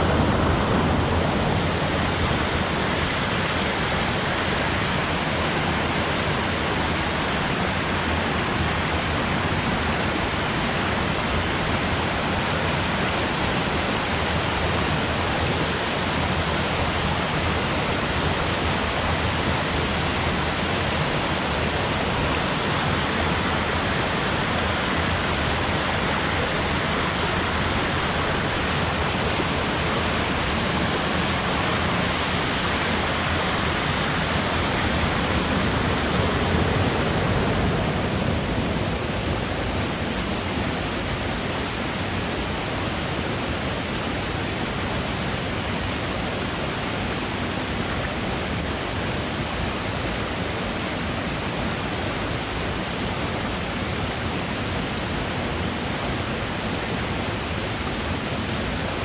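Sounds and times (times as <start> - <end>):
small waterfalls splashing: 0.0 - 59.0.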